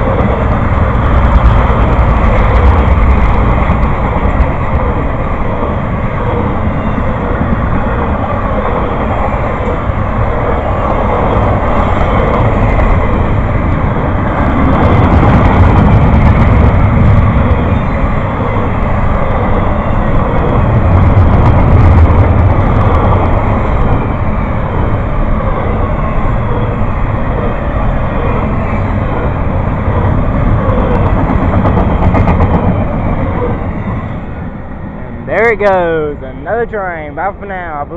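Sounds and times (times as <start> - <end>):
train rumble and rail noise: 0.0 - 37.9.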